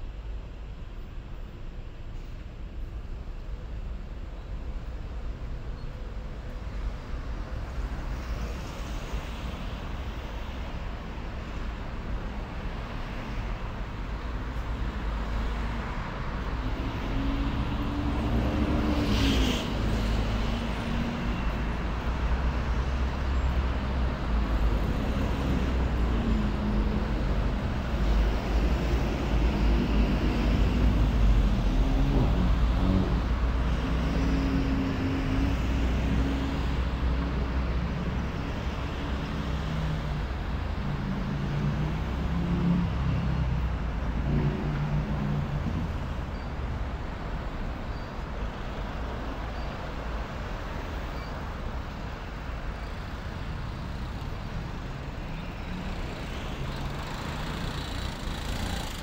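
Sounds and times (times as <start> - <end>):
city street traffic: 0.0 - 59.0.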